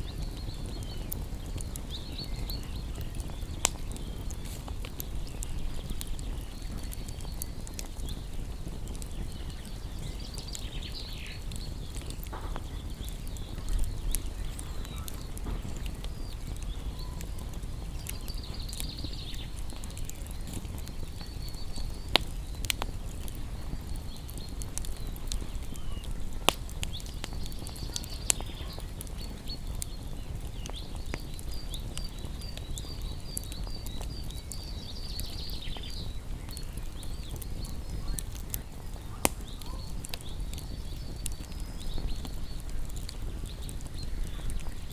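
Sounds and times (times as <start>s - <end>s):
bonfire crackling and popping: 0.0s - 44.9s
songbirds chirping: 0.0s - 44.9s.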